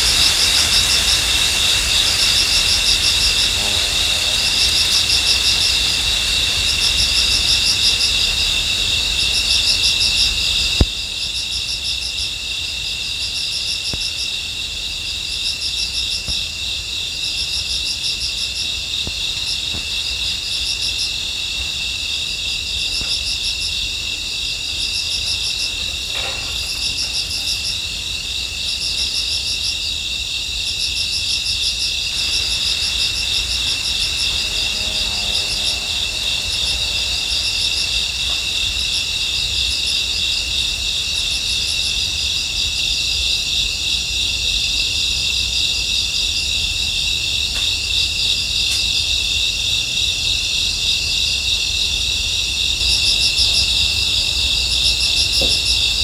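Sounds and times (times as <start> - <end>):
crickets trilling: 0.0 - 56.0
insect chirping in bursts: 0.0 - 56.0.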